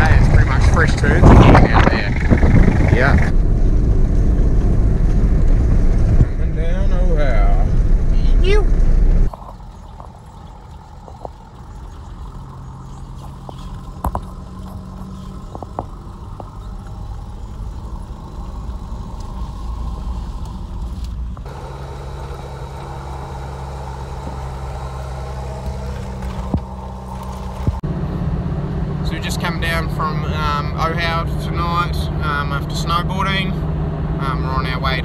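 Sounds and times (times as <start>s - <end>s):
engine and tyres droning: 0.0s - 35.0s.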